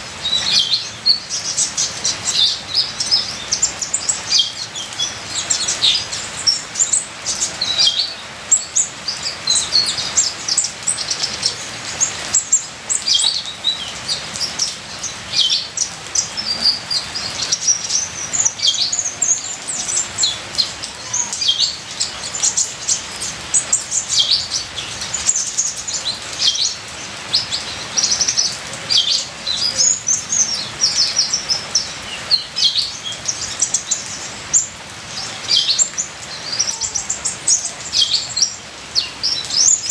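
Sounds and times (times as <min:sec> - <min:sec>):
trickling rain water: 0:00.0 - 0:39.9.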